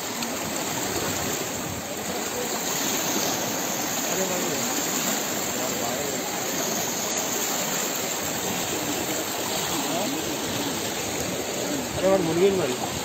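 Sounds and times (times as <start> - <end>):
faint indistinct voices: 0.0 - 13.0
rushing floodwater: 0.0 - 13.0.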